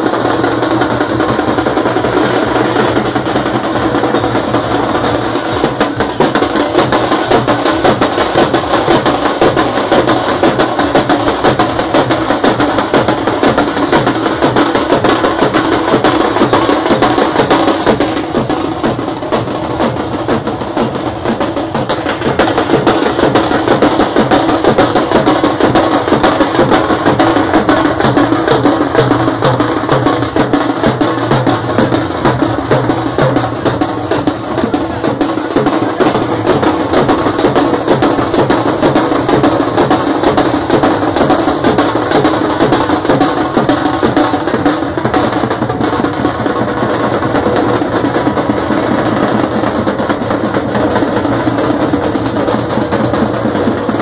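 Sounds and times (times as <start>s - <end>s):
drummers beating stick drums: 0.0s - 54.0s.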